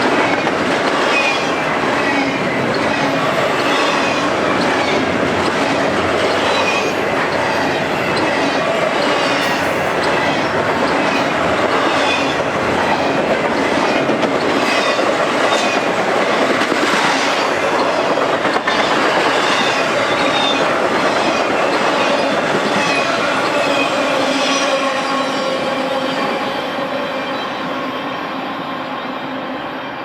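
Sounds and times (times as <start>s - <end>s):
freight train cars rumbling: 0.0s - 30.0s.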